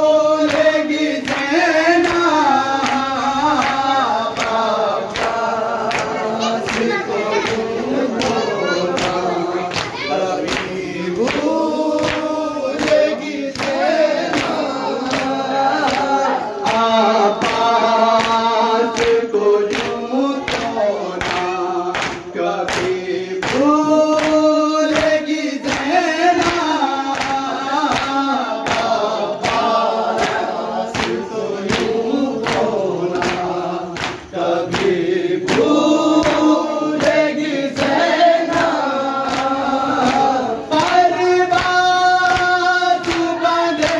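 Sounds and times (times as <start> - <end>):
men chanting a lament in chorus: 0.0 - 43.9.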